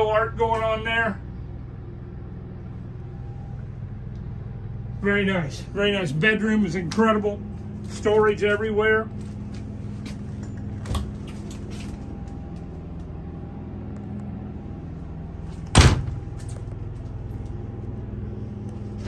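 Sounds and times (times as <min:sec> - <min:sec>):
low engine and generator hum: 0:00.0 - 0:19.0.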